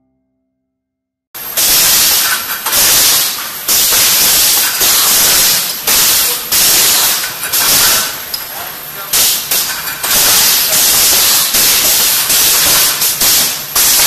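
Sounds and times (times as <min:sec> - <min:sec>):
loud hissing bursts: 0:01.4 - 0:14.0
steady machine noise: 0:01.4 - 0:14.0.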